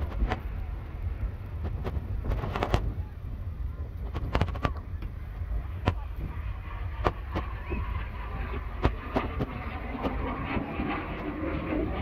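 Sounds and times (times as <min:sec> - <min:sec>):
distant aircraft engine rumble: 0:00.0 - 0:12.0.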